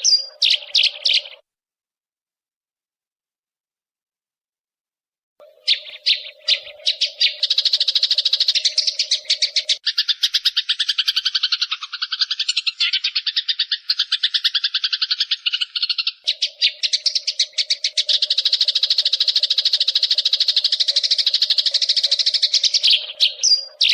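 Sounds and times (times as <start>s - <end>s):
sparrow chattering: 0.0s - 1.4s, 5.4s - 23.9s.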